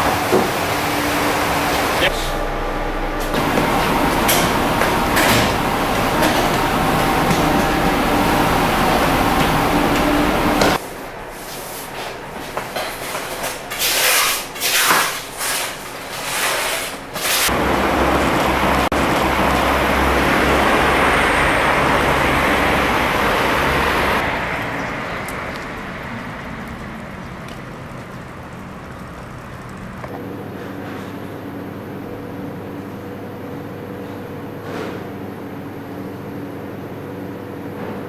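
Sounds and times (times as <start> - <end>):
low motor hum: 0.0 - 10.8, 17.5 - 38.0
washing machine wash noise: 0.0 - 38.0.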